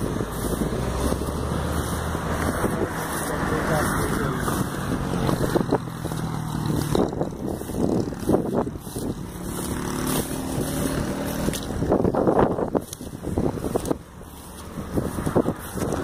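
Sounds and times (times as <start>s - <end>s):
engine drone: 0.0s - 16.0s
footsteps rustling through dry grass: 0.0s - 16.0s.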